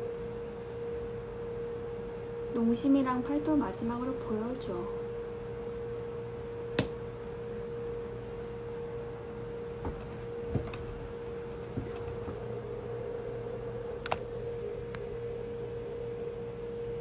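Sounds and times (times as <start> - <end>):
high-pitched whine: 0.0 - 17.0
low hum: 0.0 - 17.0.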